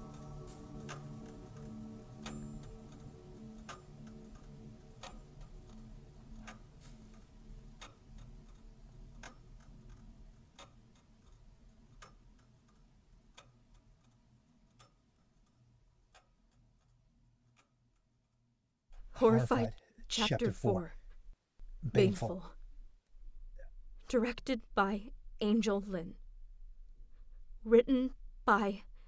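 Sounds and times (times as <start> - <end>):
clock ticking: 0.0 - 17.7, 19.0 - 29.0.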